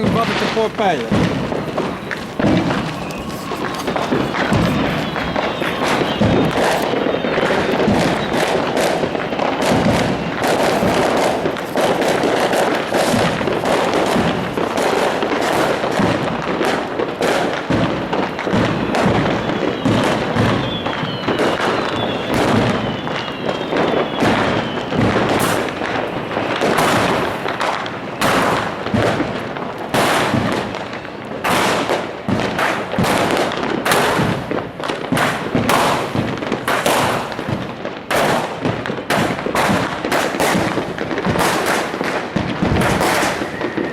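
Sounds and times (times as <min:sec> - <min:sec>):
faint firework whistles: 0:00.0 - 0:43.9
fireworks bangs and crackles: 0:00.0 - 0:43.9.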